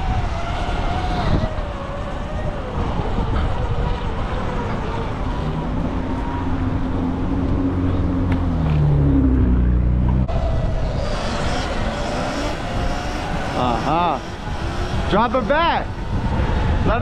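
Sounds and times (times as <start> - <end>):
car engine accelerating: 0.0 - 17.0
road and wind rush: 0.0 - 17.0.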